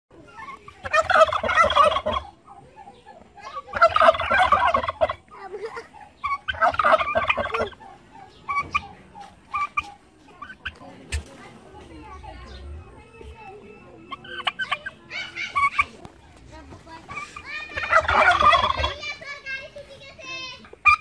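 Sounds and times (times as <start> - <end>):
soft turkey calls: 0.1 - 21.0
turkeys gobbling: 0.2 - 19.7, 20.3 - 21.0.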